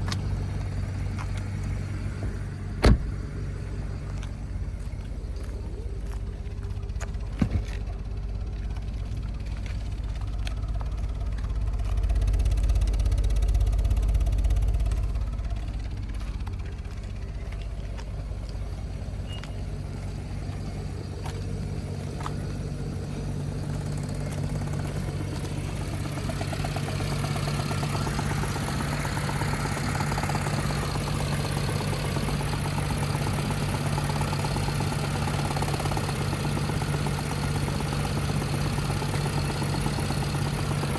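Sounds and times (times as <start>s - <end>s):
engine running with misfire: 0.0s - 40.9s.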